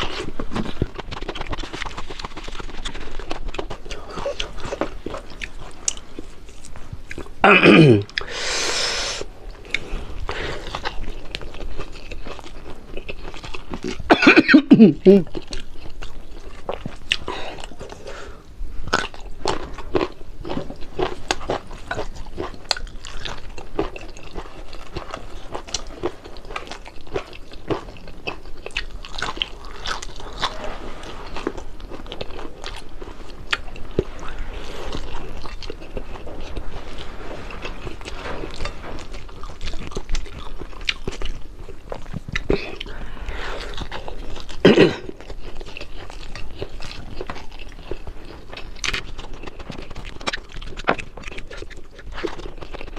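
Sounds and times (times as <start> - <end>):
chewing crispy fried fish: 0.0 - 52.9.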